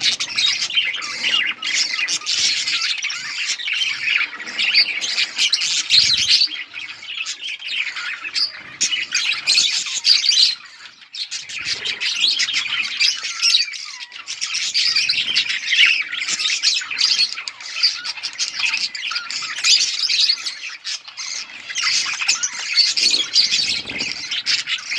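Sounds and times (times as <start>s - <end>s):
budgerigars chattering and chirping: 0.0s - 24.9s.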